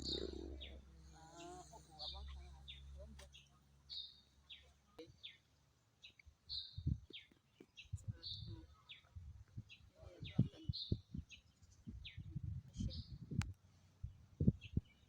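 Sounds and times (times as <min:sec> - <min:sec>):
faint wild birds calling: 0:00.0 - 0:15.0.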